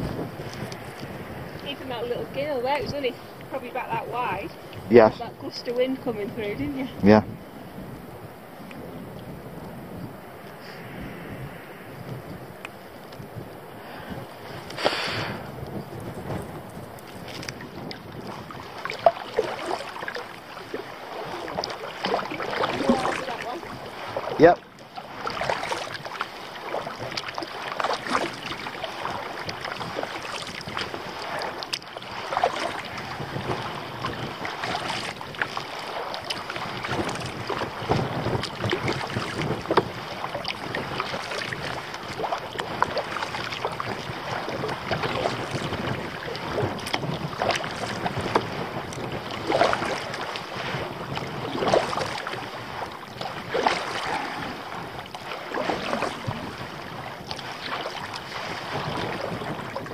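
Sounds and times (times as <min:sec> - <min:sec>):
paddle strokes splashing: 0:00.0 - 0:59.9
water washing along hull: 0:00.0 - 0:59.9
wind noise on microphone: 0:00.0 - 0:59.9.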